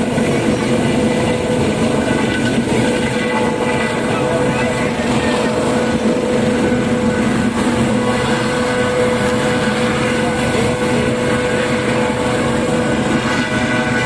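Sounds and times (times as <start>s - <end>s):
helicopter drone: 0.0s - 14.0s.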